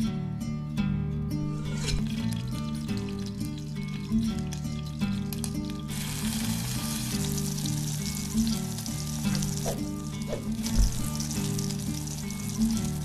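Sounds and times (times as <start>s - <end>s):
soft background music: 0.0s - 13.0s
food sizzling in a pan: 1.5s - 13.0s.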